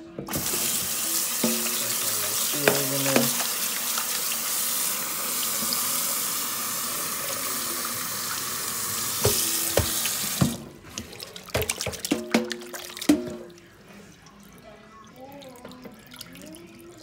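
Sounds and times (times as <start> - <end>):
faucet running water into sink: 0.2 - 17.0.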